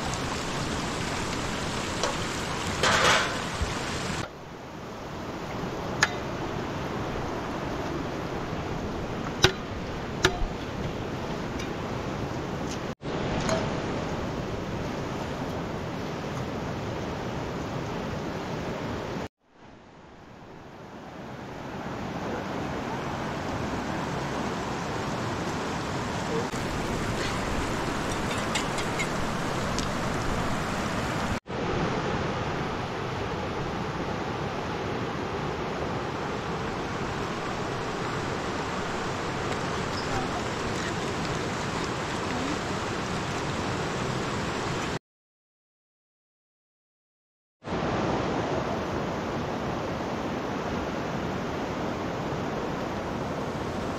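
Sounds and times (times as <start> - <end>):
river rushing: 0.0 - 45.0, 47.7 - 53.9.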